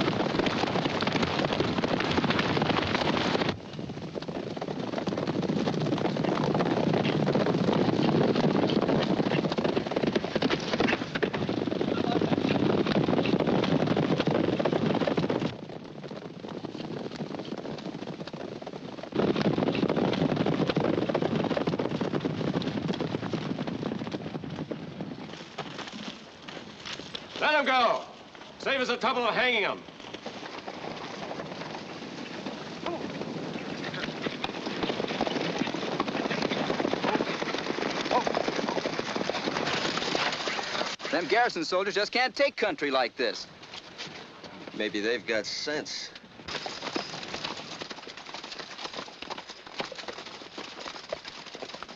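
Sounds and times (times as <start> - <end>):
horses galloping on stony ground: 0.0 - 51.9.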